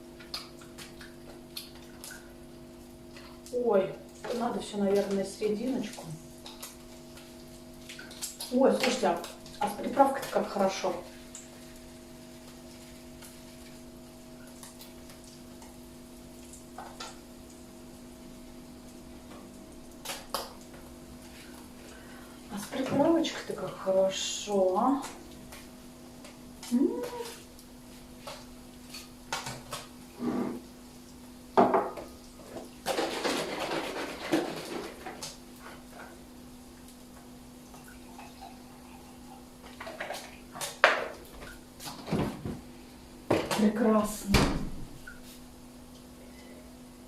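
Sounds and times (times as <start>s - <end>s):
electrical hum: 0.0s - 47.0s.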